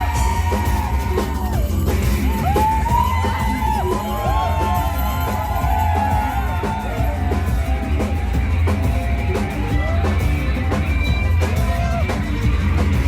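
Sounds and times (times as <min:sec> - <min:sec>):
live rock band music: 0:00.0 - 0:13.0
people yelling: 0:00.0 - 0:13.0.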